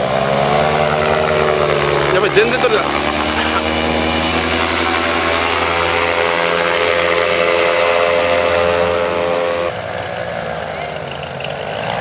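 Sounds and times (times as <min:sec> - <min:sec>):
paramotor propeller engine running: 0:00.0 - 0:12.0.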